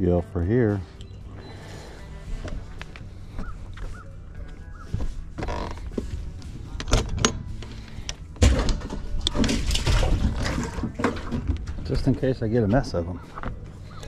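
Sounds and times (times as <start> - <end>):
handling fish and rod on boat: 0.7 - 14.0.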